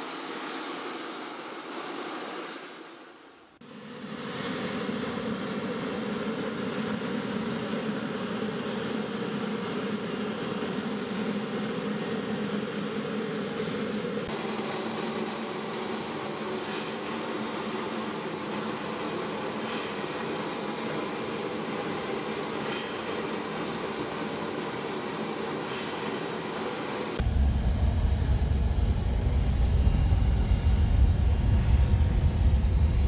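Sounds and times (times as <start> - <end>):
aircraft turbine whine: 0.0 - 33.0.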